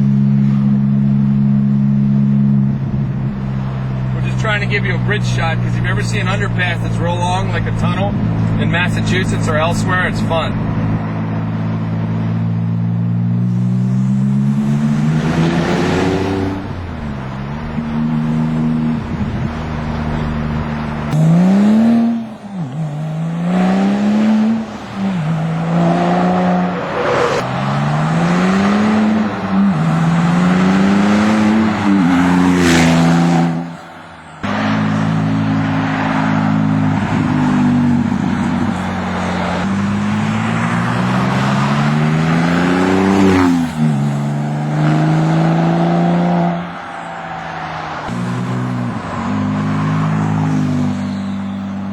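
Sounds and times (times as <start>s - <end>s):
car engine accelerating through gears: 0.0s - 51.9s.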